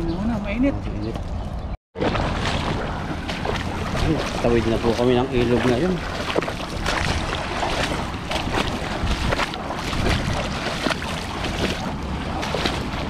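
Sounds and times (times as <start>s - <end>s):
splashing footsteps in water: 1.1s - 13.0s
river water rushing: 2.0s - 13.0s.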